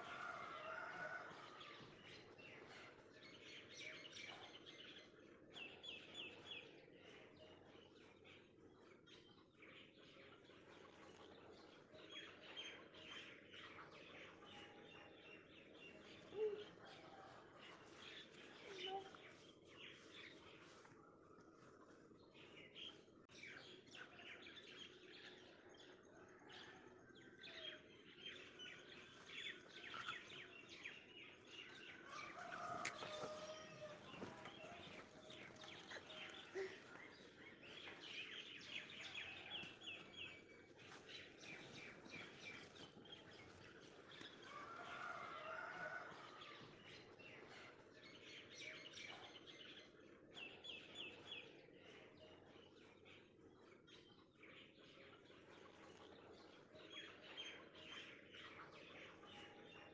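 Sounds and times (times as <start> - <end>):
small birds chirping: 0.0 - 26.8, 27.5 - 59.9.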